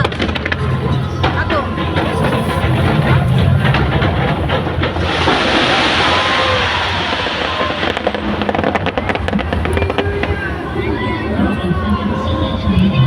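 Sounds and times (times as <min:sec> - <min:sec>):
fireworks hissing: 0:00.0 - 0:11.0
fireworks crackling: 0:00.0 - 0:11.5
crowd noise: 0:00.0 - 0:13.0
wind on microphone: 0:00.0 - 0:13.0.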